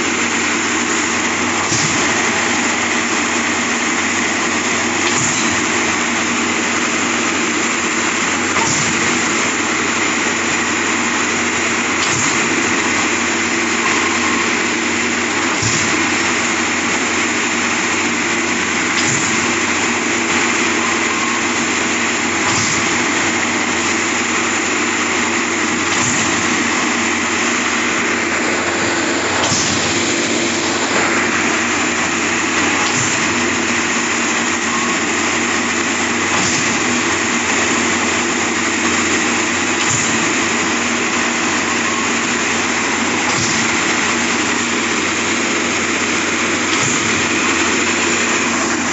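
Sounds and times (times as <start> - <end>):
concrete pump running: 0.0 - 48.9.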